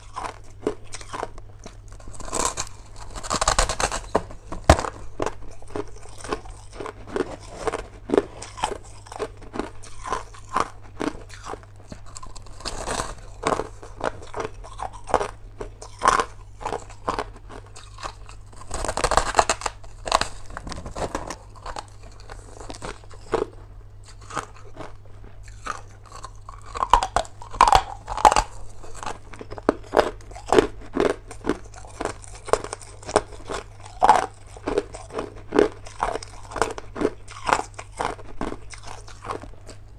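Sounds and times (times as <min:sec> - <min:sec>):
crunching ice being chewed: 0:00.0 - 0:39.9.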